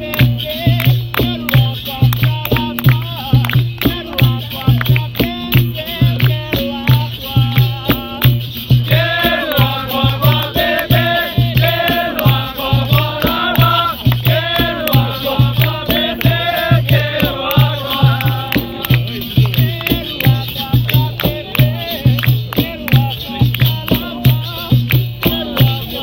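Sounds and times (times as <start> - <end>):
call-and-response singing: 0.0 - 26.0
rattle and percussion beat: 0.0 - 26.0.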